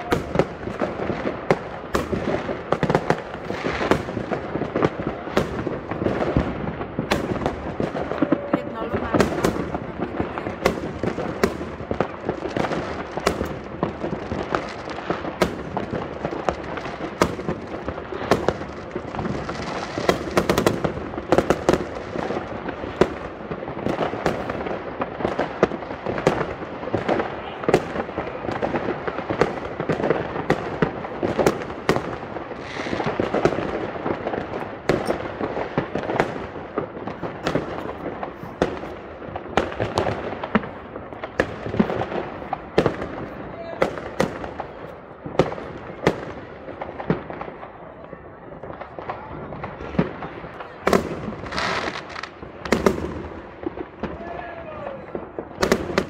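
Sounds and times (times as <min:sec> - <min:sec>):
fireworks bangs: 0:00.0 - 0:56.0
fireworks crackling: 0:00.0 - 0:56.0.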